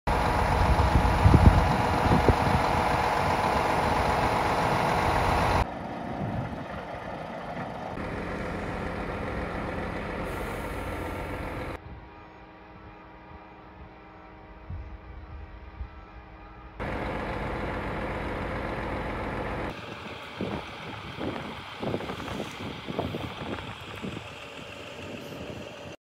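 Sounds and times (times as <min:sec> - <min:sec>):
truck diesel engine running: 0:00.1 - 0:11.8, 0:16.2 - 0:26.0.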